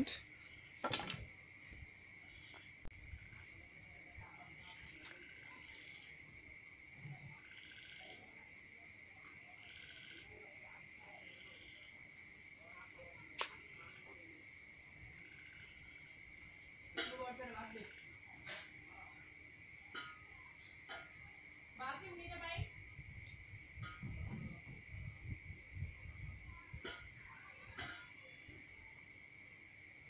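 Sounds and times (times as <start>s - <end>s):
crickets trilling: 0.0s - 30.0s
soft cricket chirp: 0.0s - 30.0s.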